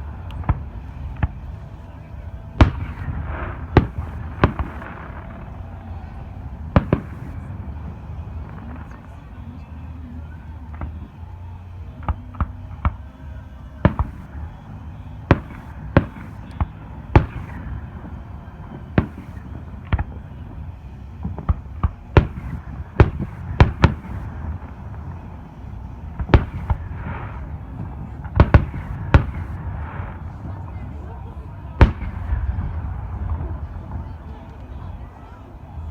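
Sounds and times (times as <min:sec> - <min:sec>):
fireworks bangs: 0:00.0 - 0:35.9
low rumble: 0:00.0 - 0:35.9.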